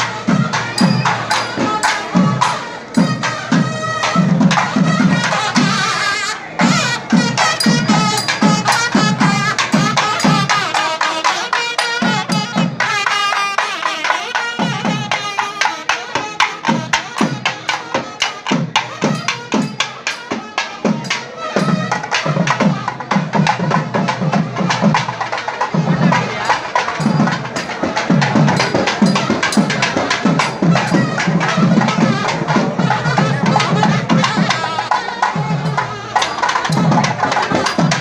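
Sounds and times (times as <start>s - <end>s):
fast drumming: 0.0s - 5.9s, 6.6s - 38.0s.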